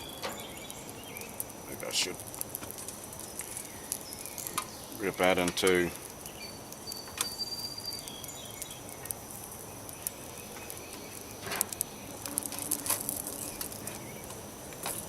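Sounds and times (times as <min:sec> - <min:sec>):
bacon frying in oil: 0:00.0 - 0:15.0
crackles and pops: 0:00.0 - 0:15.0
faint hiss: 0:00.0 - 0:15.0.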